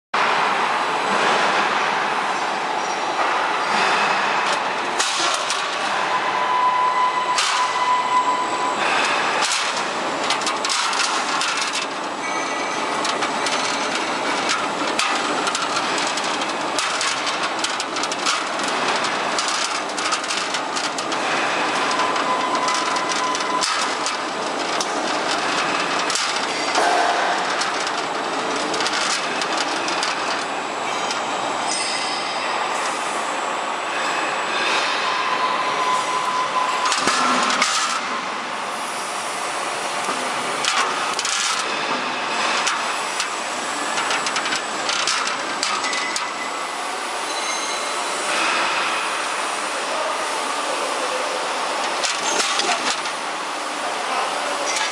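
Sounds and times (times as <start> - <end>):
roll forming machine clattering: 1.0 - 35.1, 35.7 - 54.9
machine whine: 2.4 - 54.9.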